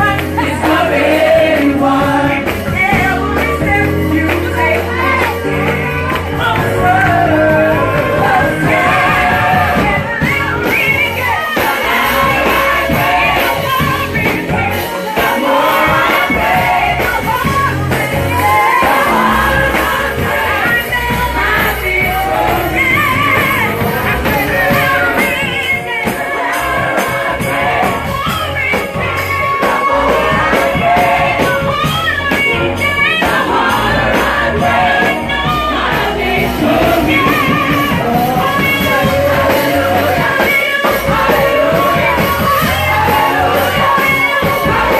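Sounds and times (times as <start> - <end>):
singers with band: 0.0 - 44.9
steady bass line: 0.0 - 44.9.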